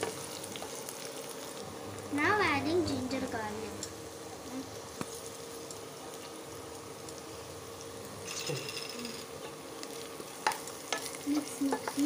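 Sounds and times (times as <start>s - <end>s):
onions frying in hot oil: 0.0s - 12.0s
faint hum: 0.1s - 12.0s.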